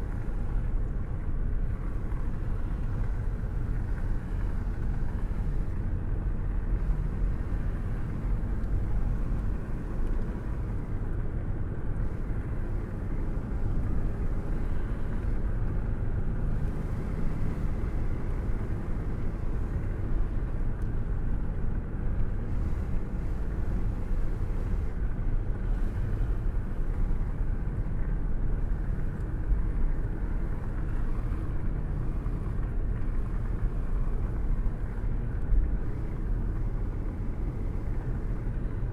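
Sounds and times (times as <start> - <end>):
car road rumble: 0.0 - 38.9
wind rushing past car window: 0.0 - 38.9.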